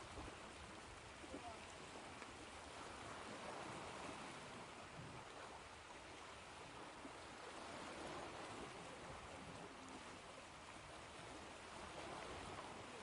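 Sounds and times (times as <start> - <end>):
ocean waves: 0.0 - 13.0.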